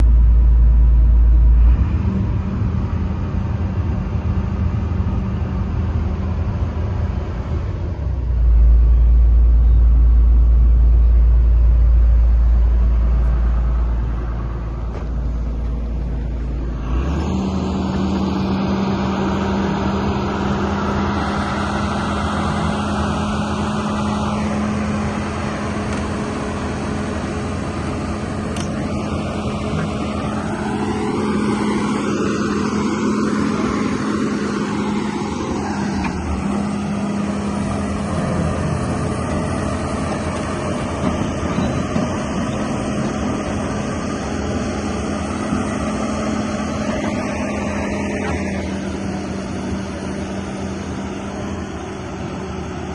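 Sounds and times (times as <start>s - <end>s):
excavator diesel engine humming: 0.0s - 52.9s
heavy low rumble: 0.0s - 52.9s.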